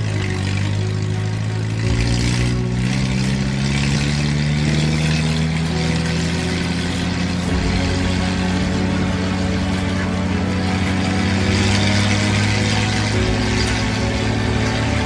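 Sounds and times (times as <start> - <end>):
steady engine-like drone: 0.0 - 15.0.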